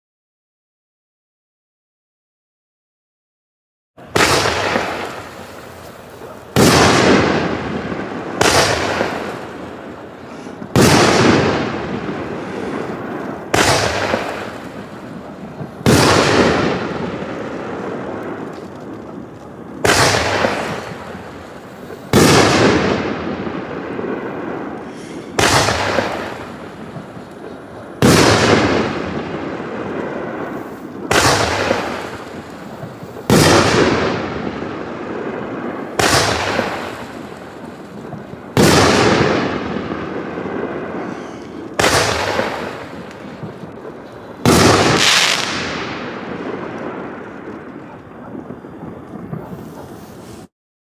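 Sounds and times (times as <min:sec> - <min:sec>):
firework bangs: 0:04.0 - 0:50.5.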